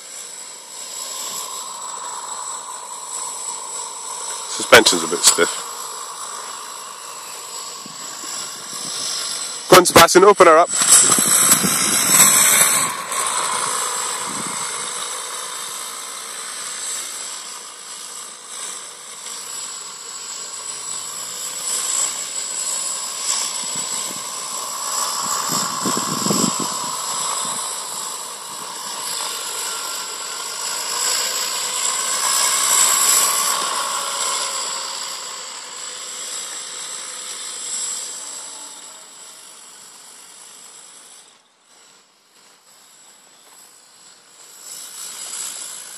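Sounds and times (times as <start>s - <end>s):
electric motor whining: 0.0s - 45.9s
steady high-pitched tone: 0.0s - 45.9s.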